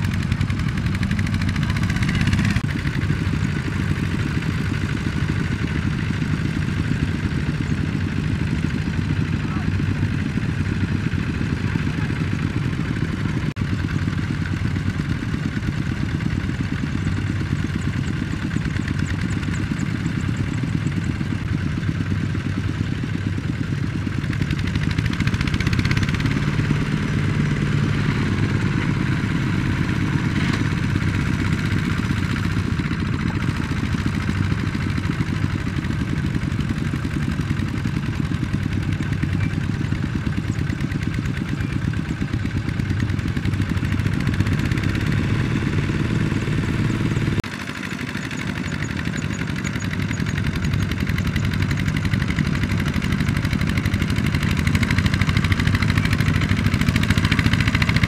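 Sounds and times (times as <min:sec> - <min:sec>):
diesel tiller engine knocking: 0:00.0 - 0:58.0.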